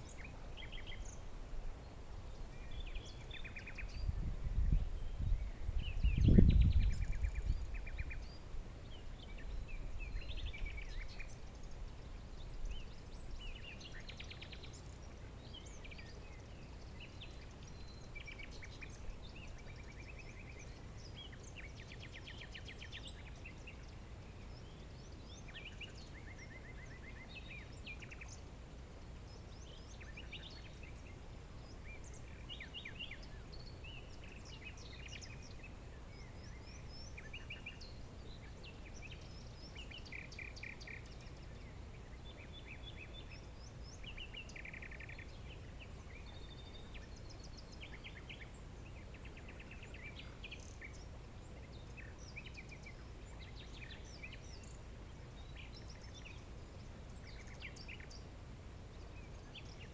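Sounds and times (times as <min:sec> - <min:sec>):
soft outdoor background: 0:00.0 - 0:59.9
songbirds chirping and trilling: 0:00.0 - 0:59.9.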